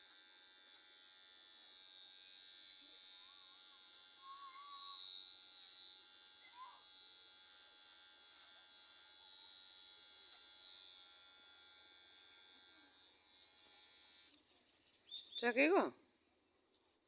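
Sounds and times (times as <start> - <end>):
electric hair clipper whining: 0.0 - 14.5.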